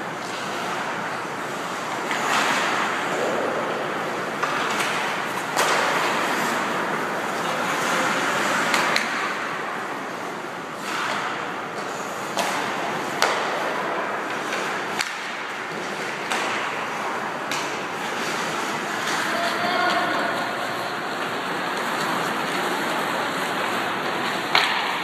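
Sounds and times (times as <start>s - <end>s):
hockey sticks and puck clacking: 0.1s - 25.0s
skates scraping on ice: 0.2s - 25.0s.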